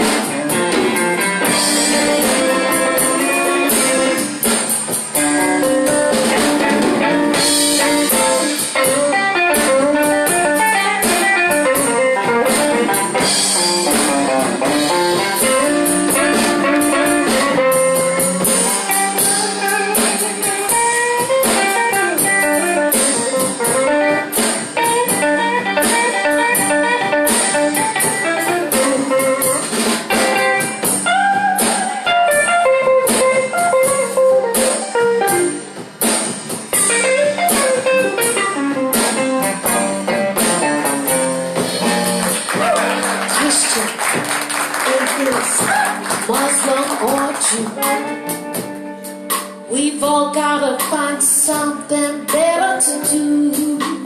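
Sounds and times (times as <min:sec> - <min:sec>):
drum kit: 0:00.0 - 0:54.0
electric guitar melody: 0:00.0 - 0:54.0.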